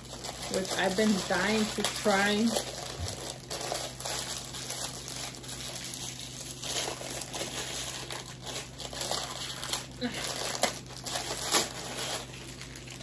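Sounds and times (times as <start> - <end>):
plastic packaging crinkling and tearing: 0.0 - 13.0.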